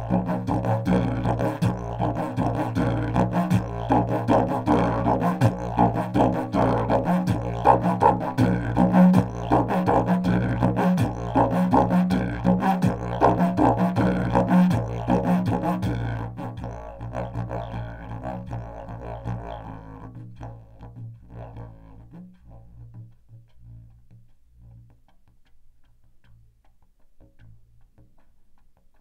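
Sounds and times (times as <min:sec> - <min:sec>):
didgeridoo droning: 0:00.0 - 0:24.9.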